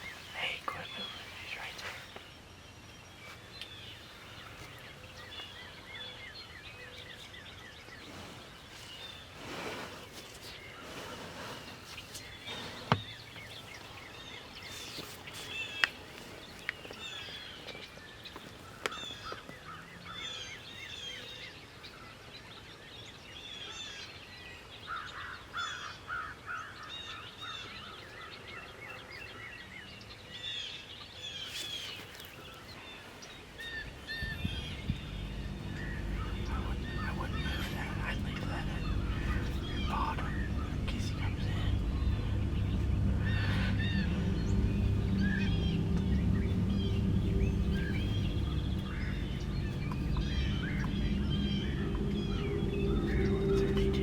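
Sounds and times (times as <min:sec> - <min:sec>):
songbird chirps and trills: 0:00.0 - 0:26.0, 0:26.7 - 0:54.0.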